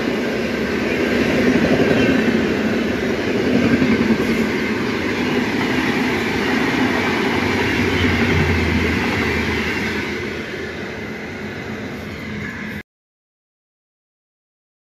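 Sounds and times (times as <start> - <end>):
train wheels rumbling on rails: 0.0 - 12.8.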